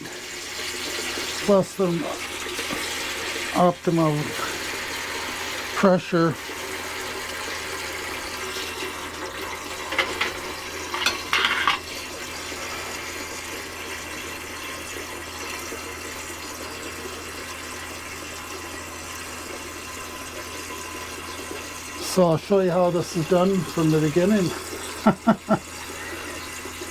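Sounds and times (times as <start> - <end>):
water spraying into a sink: 0.0 - 26.9.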